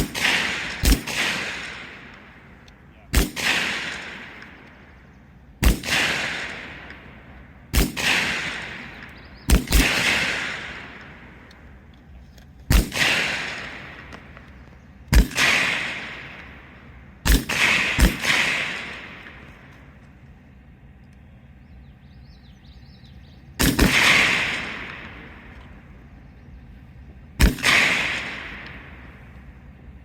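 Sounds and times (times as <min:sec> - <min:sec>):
rifle shots with rolling echo: 0:00.0 - 0:21.6, 0:22.9 - 0:30.0.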